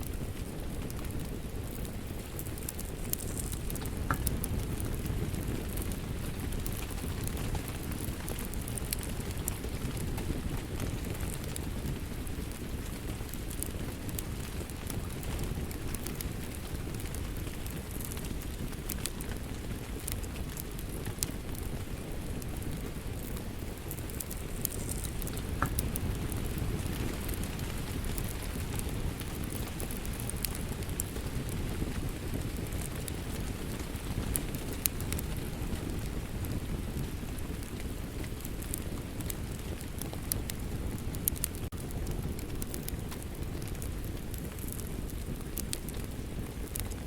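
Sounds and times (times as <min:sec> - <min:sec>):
steady rain: 0:00.0 - 0:47.0
wood fire crackling: 0:00.0 - 0:47.0.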